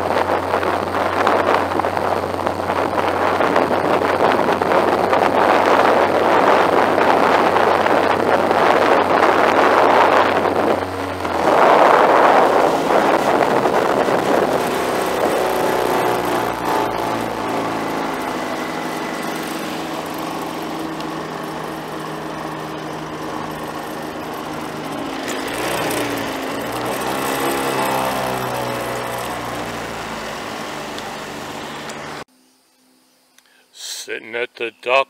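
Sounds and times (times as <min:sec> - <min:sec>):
outboard motor running: 0:00.0 - 0:32.3
rushing wind: 0:00.0 - 0:32.3.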